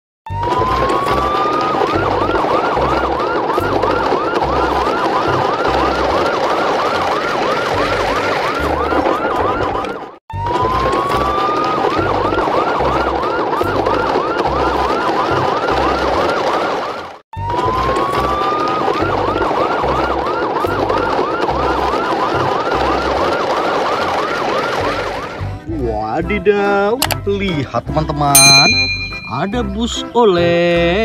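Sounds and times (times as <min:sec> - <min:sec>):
electronic siren wailing and yelping: 0:00.3 - 0:25.5.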